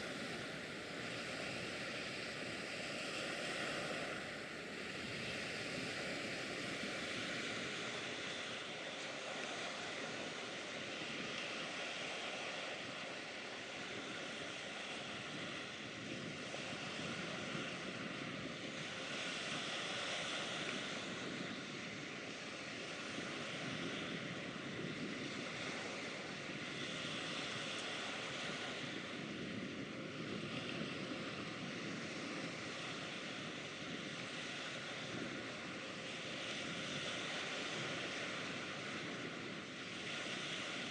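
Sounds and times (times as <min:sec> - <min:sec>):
faint steady hum: 0:00.0 - 0:40.9
water: 0:00.0 - 0:40.9
wind: 0:00.0 - 0:40.9.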